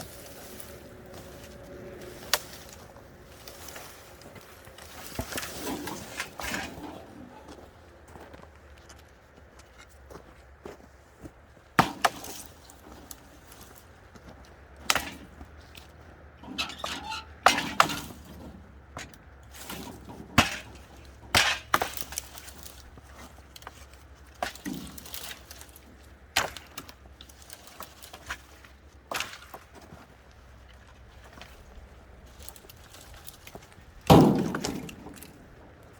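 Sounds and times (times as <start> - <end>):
branches breaking with wooden cracks: 0.0 - 8.2, 11.7 - 35.9.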